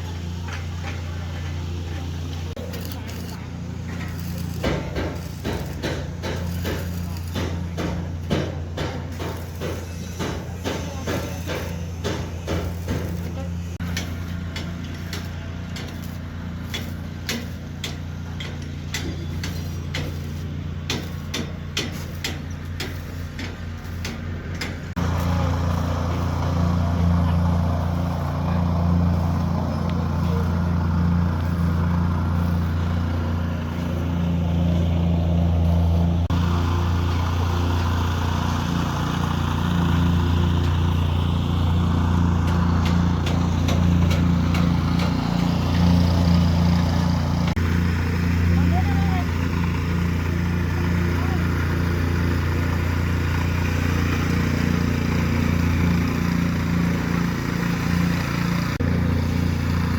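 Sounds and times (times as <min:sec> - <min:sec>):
engine running with low hum: 0:00.0 - 0:59.9.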